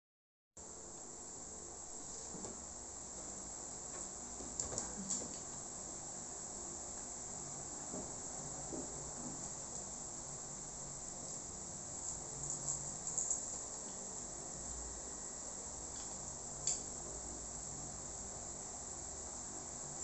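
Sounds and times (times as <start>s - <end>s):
steady high hiss: 0.6s - 20.0s.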